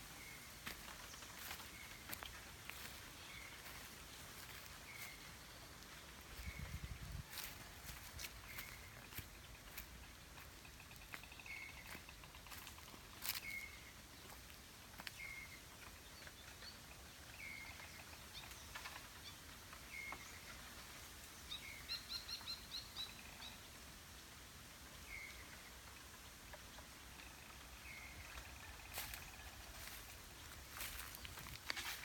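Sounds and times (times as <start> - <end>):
quiet rural background noise: 0.0 - 32.0.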